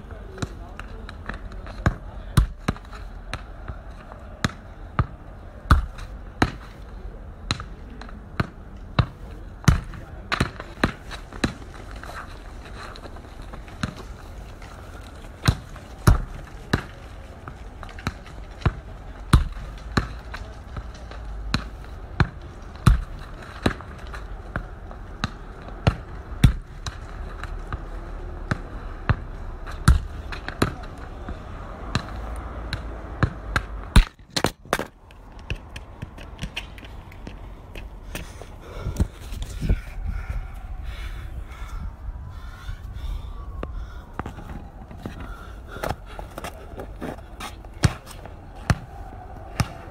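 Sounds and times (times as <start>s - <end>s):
football bouncing on pavement: 0.1s - 6.8s, 7.4s - 39.6s, 43.6s - 48.9s, 49.5s - 49.9s.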